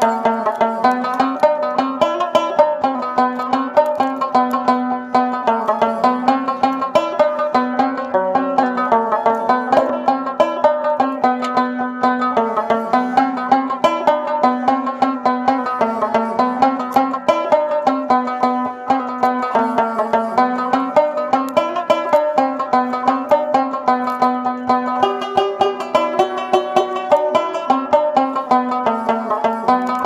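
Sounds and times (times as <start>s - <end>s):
plucked string music: 0.0s - 30.0s.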